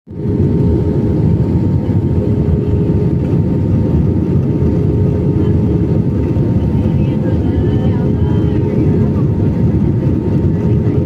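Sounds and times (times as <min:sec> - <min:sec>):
airliner cabin engine rumble: 0:00.1 - 0:11.0.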